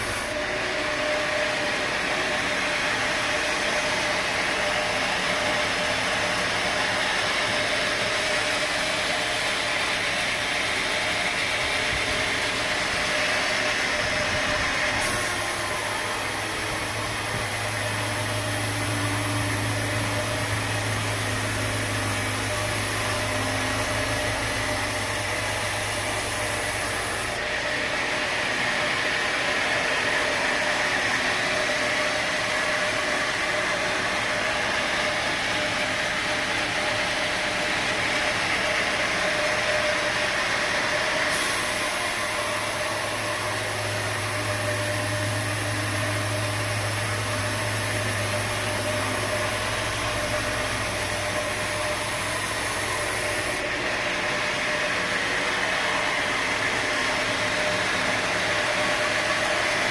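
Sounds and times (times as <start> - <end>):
sawmill machinery hum and hiss: 0.0 - 59.9.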